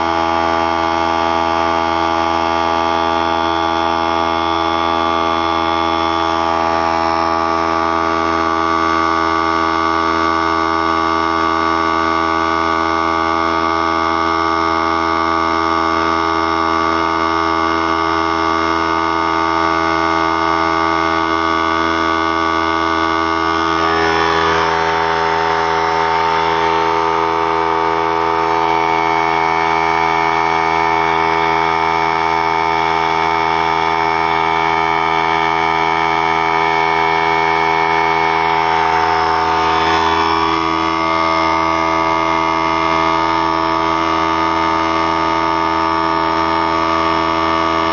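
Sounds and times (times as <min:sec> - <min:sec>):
air compressor humming: 0:00.0 - 0:47.9.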